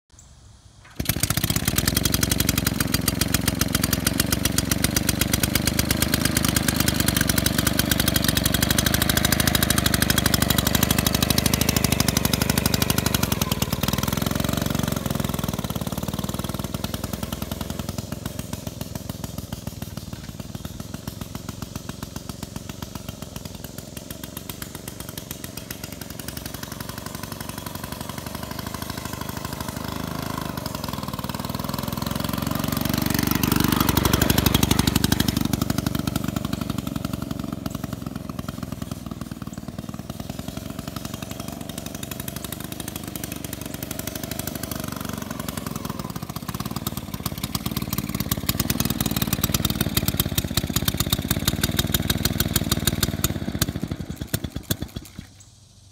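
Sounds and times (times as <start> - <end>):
motorcycle two-stroke engine popping: 0.8 - 55.9.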